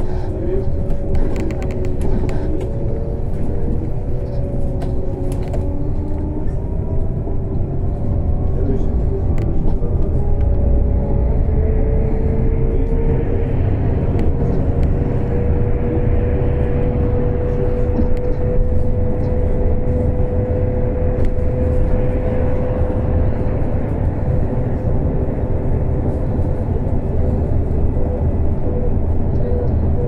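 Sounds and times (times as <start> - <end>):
road rumble: 0.0 - 30.0.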